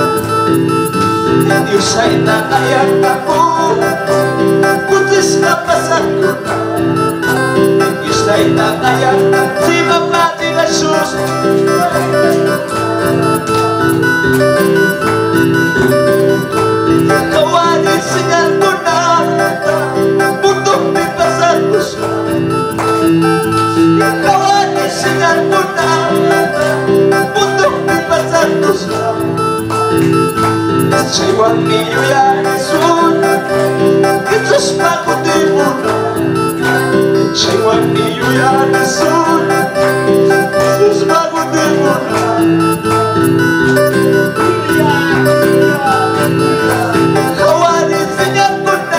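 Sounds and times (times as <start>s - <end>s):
electronic keyboard: 0.0s - 48.9s
man singing worship song: 1.4s - 14.8s, 17.0s - 29.5s, 30.9s - 48.9s.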